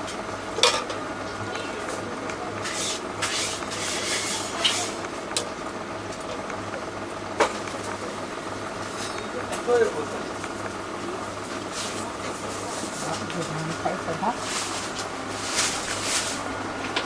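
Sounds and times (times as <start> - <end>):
kitchen appliances humming: 0.0 - 17.0.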